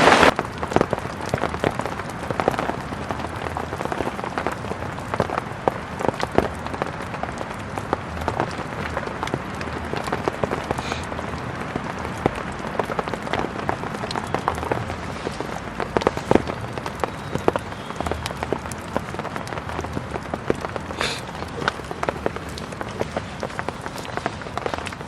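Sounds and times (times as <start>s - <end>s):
heavy rain on tent fabric: 0.0s - 25.0s.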